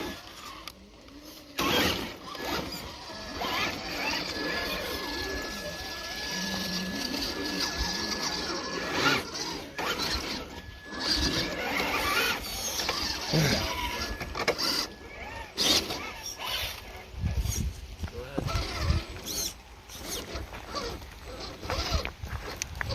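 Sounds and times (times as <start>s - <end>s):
small electric motors whirring: 0.0s - 22.9s.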